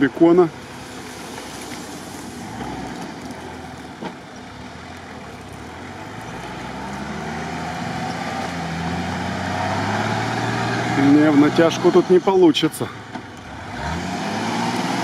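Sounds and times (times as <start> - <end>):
engine running at low speed: 0.0 - 15.0.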